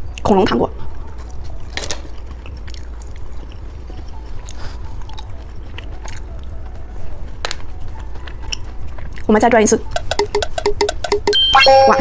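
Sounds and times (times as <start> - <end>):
person chewing candy: 0.0 - 10.5.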